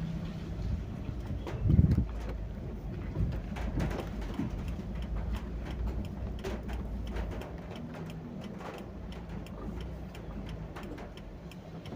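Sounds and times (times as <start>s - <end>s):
raindrops ticking on hard surface: 1.2s - 11.9s.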